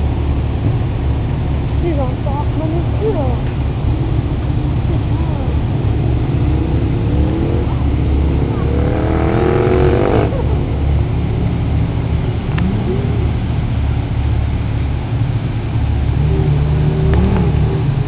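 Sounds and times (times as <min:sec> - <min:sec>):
car engine revving: 0:00.0 - 0:18.0
low engine rumble: 0:00.0 - 0:18.0.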